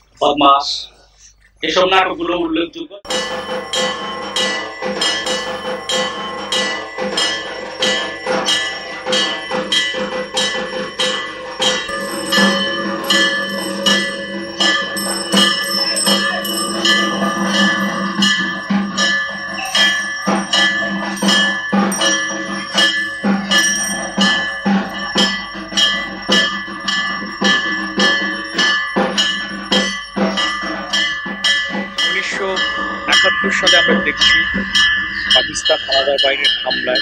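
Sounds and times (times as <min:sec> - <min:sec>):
drum strikes: 0:03.0 - 0:37.0
metal bells ringing: 0:03.0 - 0:37.0.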